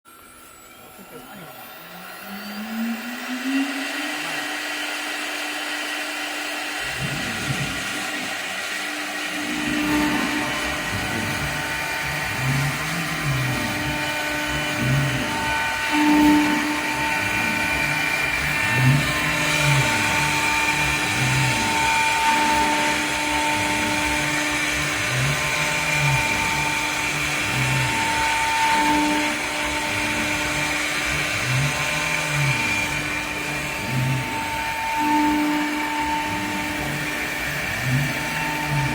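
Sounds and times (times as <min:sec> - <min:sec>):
axis motors whirring: 0:00.1 - 0:38.9
router spindle whine: 0:00.1 - 0:38.9.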